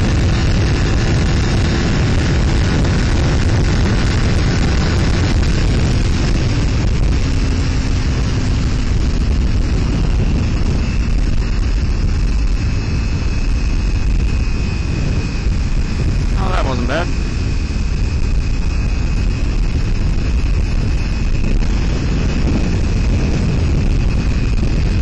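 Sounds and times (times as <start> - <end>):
motorcycle engine cruising: 0.0 - 25.0
wind rushing over microphone: 0.0 - 25.0.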